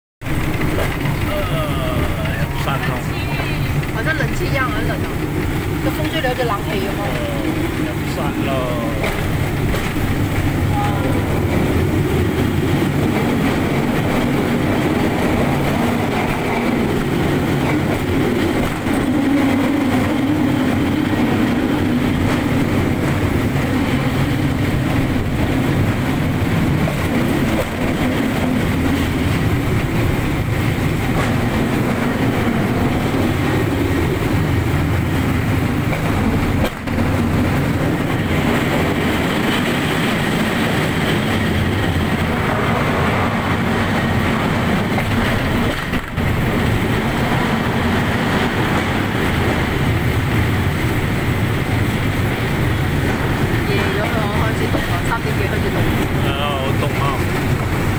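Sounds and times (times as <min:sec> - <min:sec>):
rail car wheels rumbling on rails: 0:00.2 - 0:57.9.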